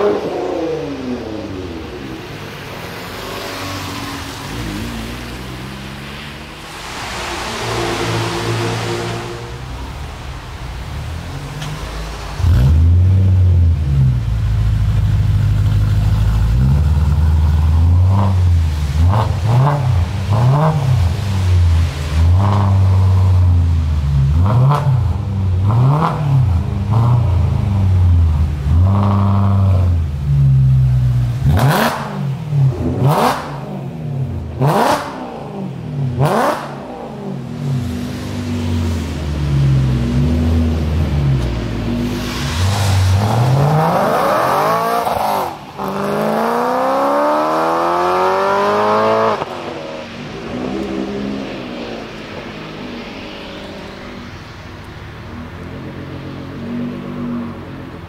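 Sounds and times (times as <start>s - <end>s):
car engine revving: 0.0s - 54.3s
car pulling away: 0.0s - 58.0s.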